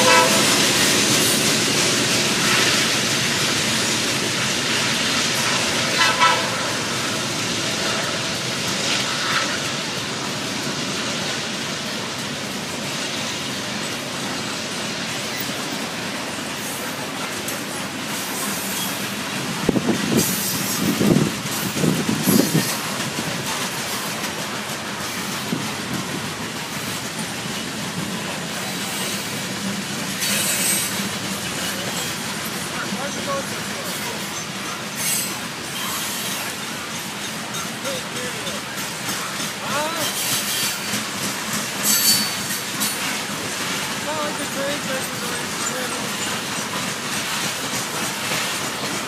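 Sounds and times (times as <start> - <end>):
steel wheels on track: 0.0 - 49.0.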